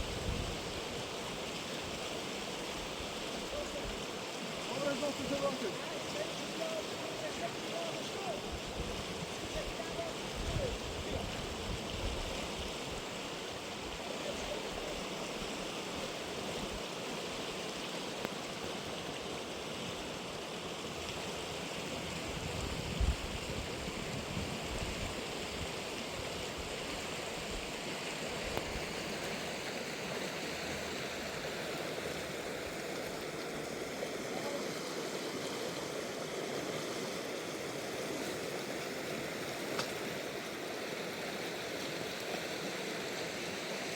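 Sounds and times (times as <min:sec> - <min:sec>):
river rushing: 0:00.0 - 0:43.9.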